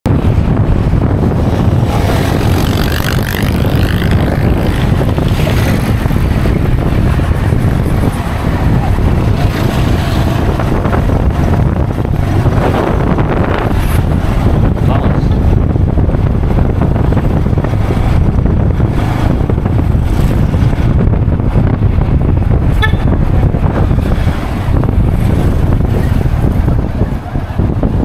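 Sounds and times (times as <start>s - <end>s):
road vehicle rumble: 0.0s - 28.0s
wind buffeting microphone: 0.0s - 28.0s.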